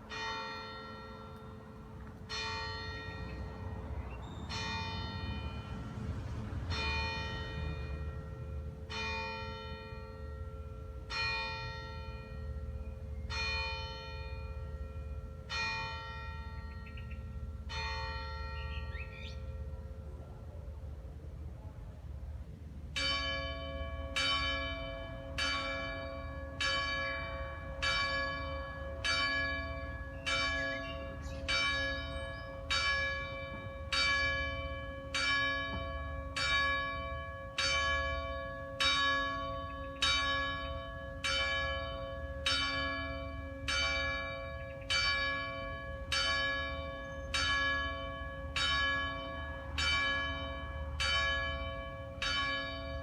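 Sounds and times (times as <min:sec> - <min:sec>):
church bell tolling: 0:00.0 - 0:05.9, 0:06.7 - 0:20.2, 0:22.8 - 0:53.0.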